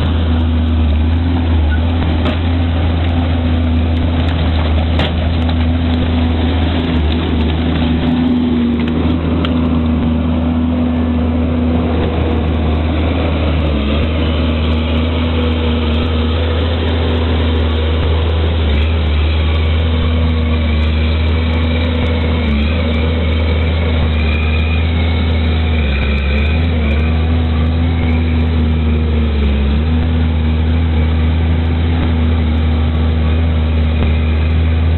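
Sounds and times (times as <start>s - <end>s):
engine droning: 0.0s - 34.9s.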